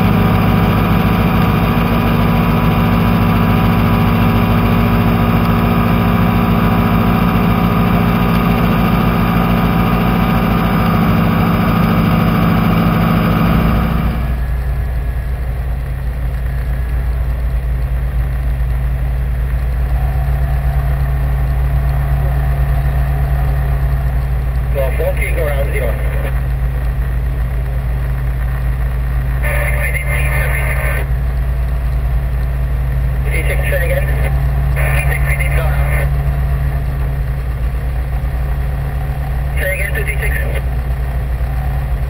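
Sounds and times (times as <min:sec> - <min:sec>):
propeller aircraft engine droning: 0:00.0 - 0:42.0.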